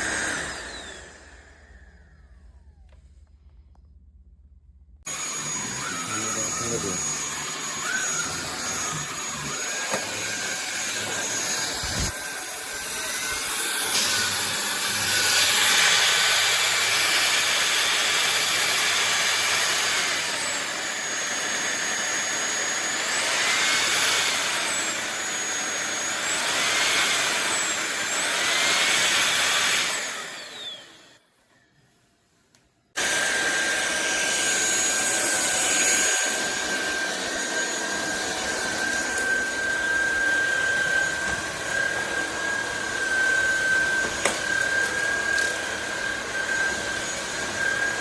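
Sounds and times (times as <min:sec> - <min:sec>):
stick vacuum running: 0:00.0 - 0:03.1, 0:05.1 - 0:31.2, 0:33.0 - 0:48.0.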